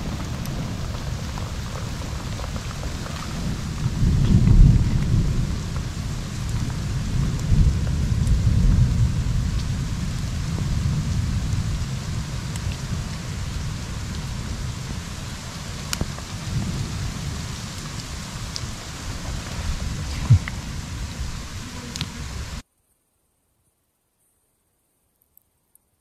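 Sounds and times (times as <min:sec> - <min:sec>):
thunder rumbling: 0:00.0 - 0:22.6
rain falling in a forest: 0:00.0 - 0:23.5.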